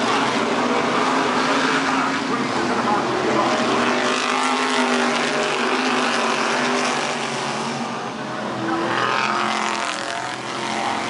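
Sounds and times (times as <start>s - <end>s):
race car engines: 0.0s - 11.0s
race car passing close by: 0.0s - 11.0s.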